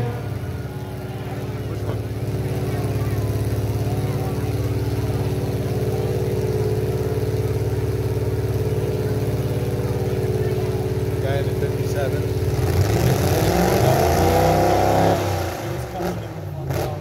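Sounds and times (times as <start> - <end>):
truck engines idling: 0.0 - 17.0.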